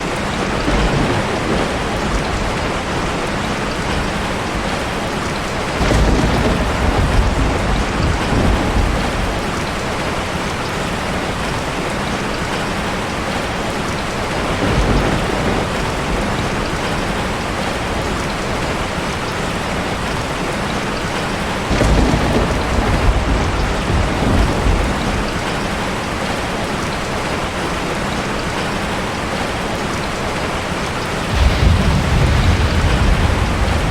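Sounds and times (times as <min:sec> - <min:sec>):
thunder rumbling: 0:00.0 - 0:13.4, 0:14.0 - 0:26.6, 0:30.1 - 0:33.9
heavy rain pouring: 0:00.0 - 0:33.9.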